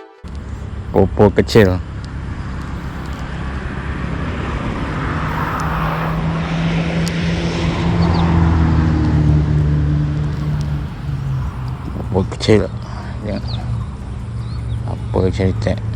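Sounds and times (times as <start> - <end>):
outdoor background noise: 0.2 - 15.9
engine running with low hum: 0.3 - 15.9.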